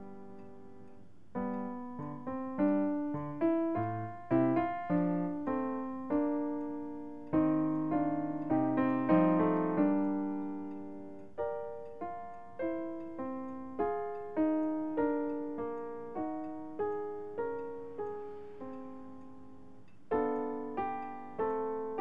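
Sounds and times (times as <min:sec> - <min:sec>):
slow solo piano music: 0:00.0 - 0:22.0.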